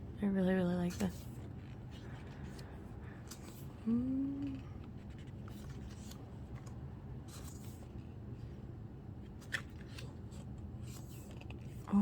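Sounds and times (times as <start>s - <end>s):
faint room hum: 0.0s - 12.0s
paper pages rustling: 0.8s - 3.8s, 4.4s - 8.6s, 9.2s - 11.9s.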